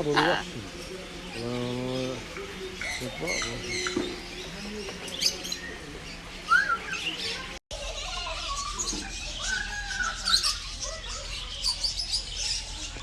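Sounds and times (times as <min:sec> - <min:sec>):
birds chirping and squeaking: 0:00.0 - 0:13.0.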